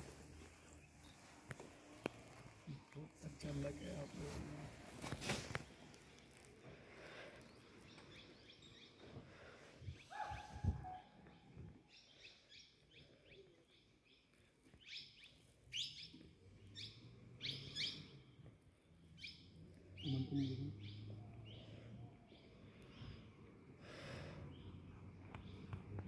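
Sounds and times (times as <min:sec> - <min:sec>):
forest birds chirping: 0:00.0 - 0:26.0.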